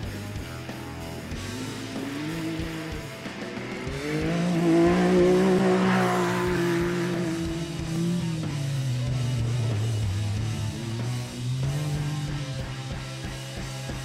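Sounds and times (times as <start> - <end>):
race buggy engine at high revs: 0.0 - 14.0.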